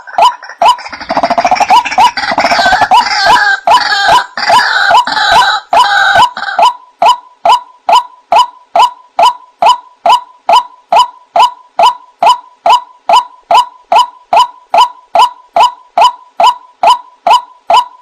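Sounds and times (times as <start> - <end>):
waterhen calling: 0.0 - 17.9.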